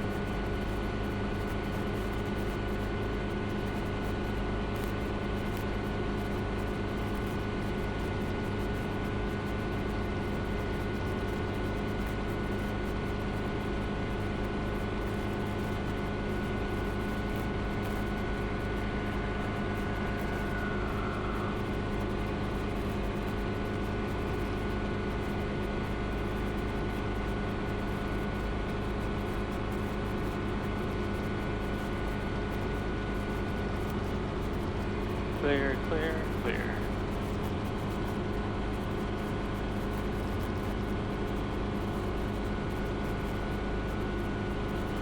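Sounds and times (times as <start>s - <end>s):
helicopter engine and rotors drone: 0.0s - 45.0s.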